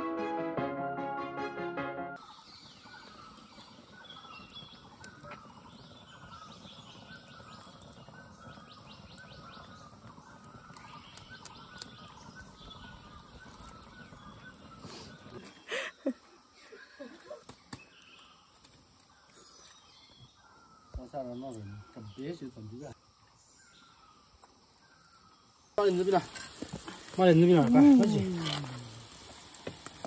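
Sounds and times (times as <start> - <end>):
birds chirping: 2.2 - 30.0.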